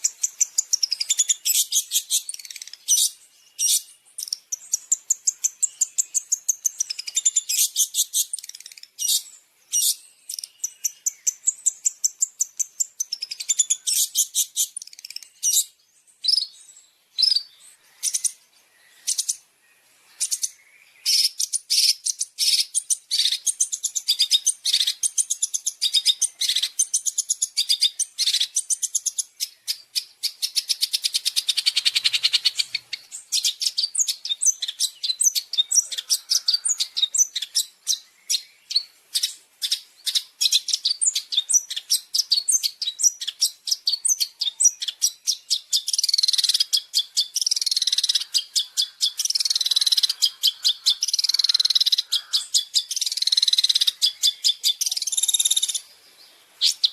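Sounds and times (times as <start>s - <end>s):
bird singing chirps and trills: 0.0s - 56.9s.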